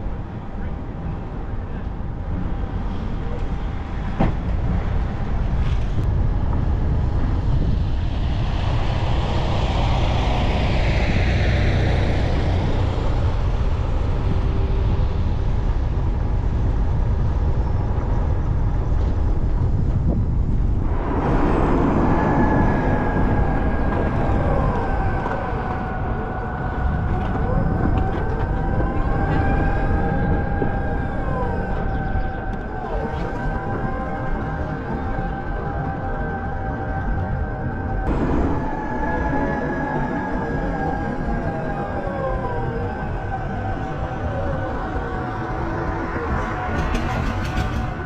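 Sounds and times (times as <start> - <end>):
wind on microphone: 0.0 - 48.0.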